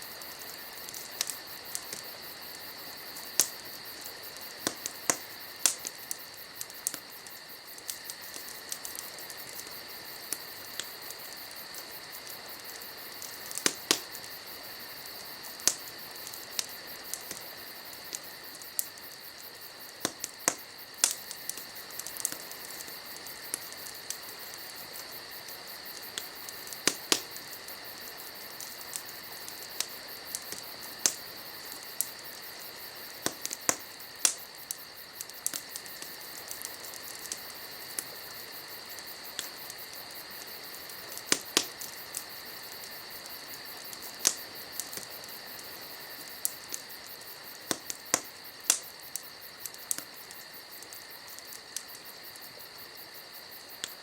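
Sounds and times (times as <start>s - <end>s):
campfire crackling and popping: 0.0s - 54.0s
insects chirping: 0.0s - 54.0s.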